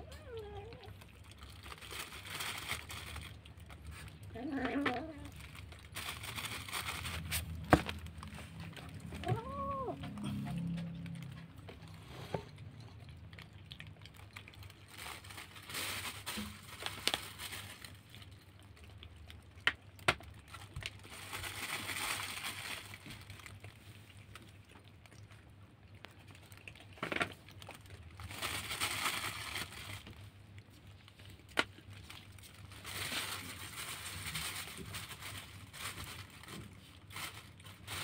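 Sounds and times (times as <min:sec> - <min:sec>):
plastic bag crinkling: 0:00.0 - 0:11.9, 0:13.3 - 0:25.4, 0:26.2 - 0:38.0
kittens eating: 0:00.0 - 0:38.0.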